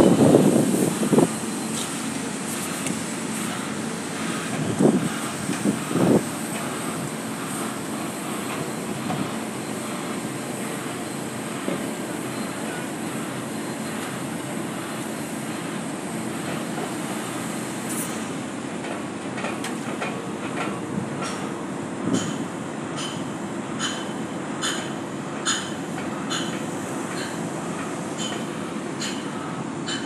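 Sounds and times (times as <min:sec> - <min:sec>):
heavy machinery running: 0:00.0 - 0:30.0.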